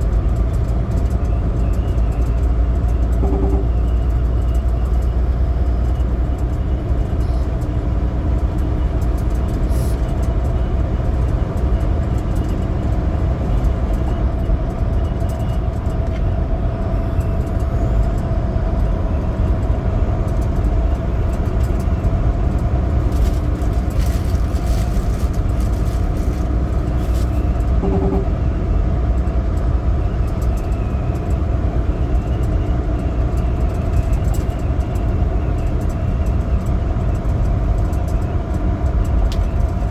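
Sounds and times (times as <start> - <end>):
road noise: 0.0 - 39.9
truck diesel engine droning: 0.0 - 39.9.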